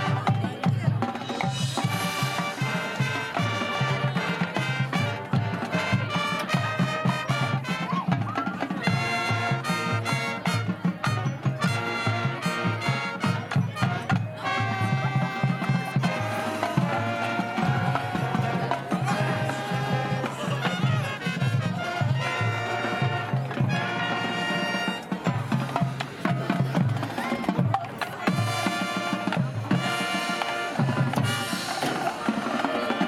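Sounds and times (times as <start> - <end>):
upbeat brass music: 0.0 - 33.0.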